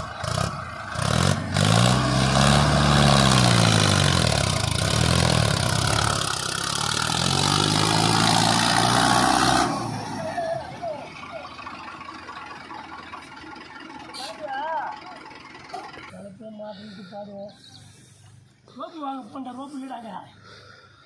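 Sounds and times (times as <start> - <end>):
tractor engine revving: 0.0 - 16.9.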